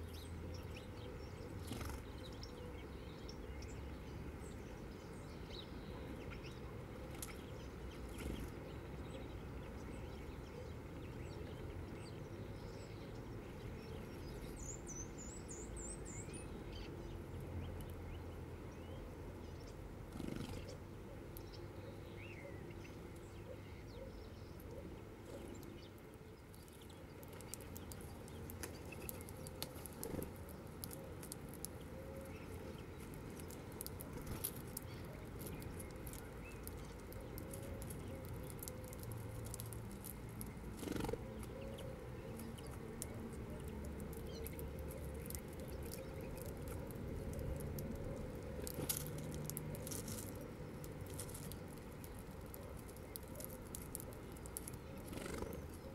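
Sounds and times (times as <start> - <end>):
birds pecking seeds: 0.1 - 55.9.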